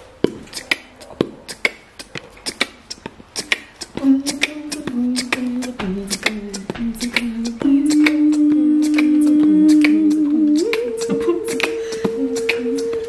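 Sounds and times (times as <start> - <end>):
beatboxing clicks and pops: 0.2 - 13.0
hummed tune: 0.5 - 13.0.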